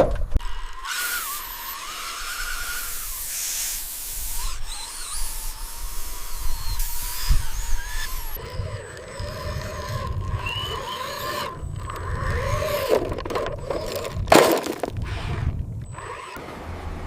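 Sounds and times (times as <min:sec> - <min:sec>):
small electric motors whining: 0:00.4 - 0:16.4
squealing and scraping: 0:00.4 - 0:16.4.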